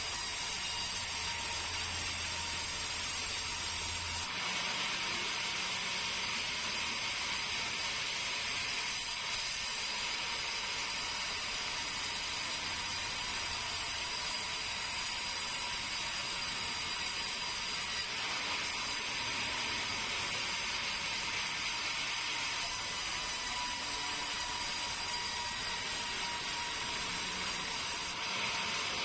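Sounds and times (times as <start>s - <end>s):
sawmill saw cutting timber: 0.0s - 5.0s, 8.7s - 29.0s.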